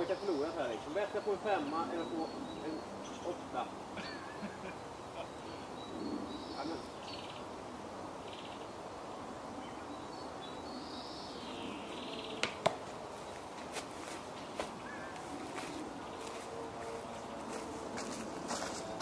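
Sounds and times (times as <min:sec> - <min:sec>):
faint outdoor hiss: 0:00.0 - 0:19.0
songbird singing: 0:00.0 - 0:19.0.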